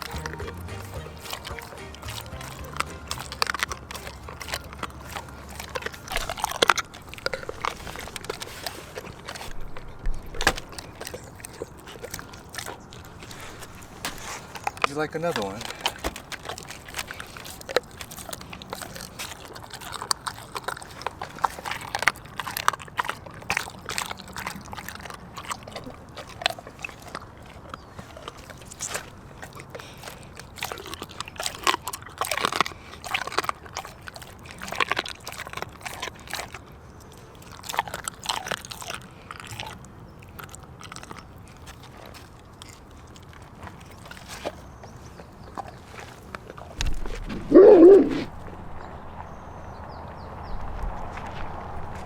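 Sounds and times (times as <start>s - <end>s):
dog chewing raw chicken: 0.0s - 49.7s.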